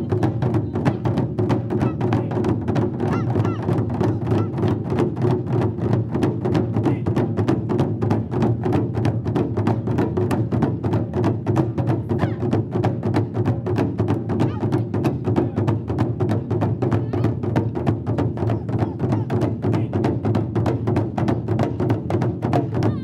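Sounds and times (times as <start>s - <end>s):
taiko drums: 0.0s - 23.0s.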